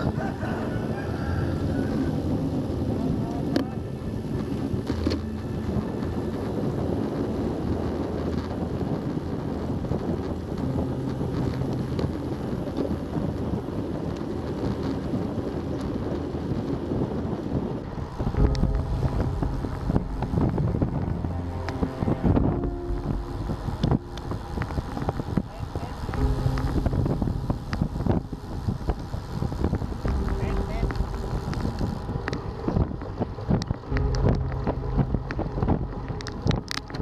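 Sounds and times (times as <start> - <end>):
steady low hum: 0.0 - 15.5, 17.7 - 37.0
road noise: 0.0 - 37.0
wind rushing over microphone: 0.0 - 37.0.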